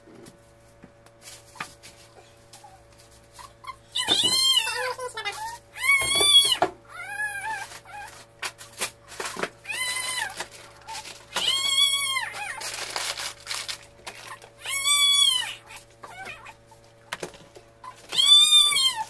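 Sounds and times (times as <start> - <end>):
pet whining: 1.4 - 13.4, 14.1 - 17.1, 17.7 - 19.0.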